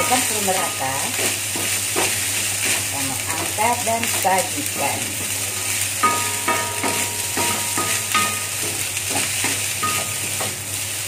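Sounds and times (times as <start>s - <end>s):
food sizzling: 0.0s - 11.0s
spatula scraping a wok: 0.0s - 11.0s
wok ringing: 0.0s - 11.0s.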